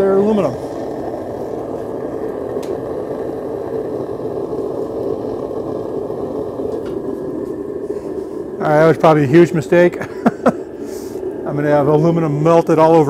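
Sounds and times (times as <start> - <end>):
furnace burner rushing: 0.0 - 13.0.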